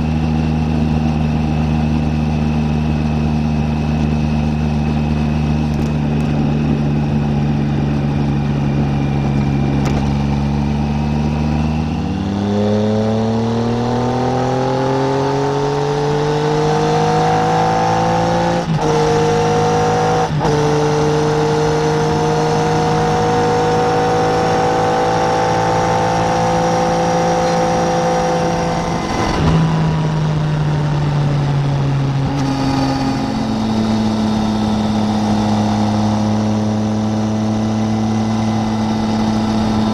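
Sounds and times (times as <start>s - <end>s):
motorcycle engine revving: 0.0s - 39.9s
wind noise: 4.1s - 39.9s.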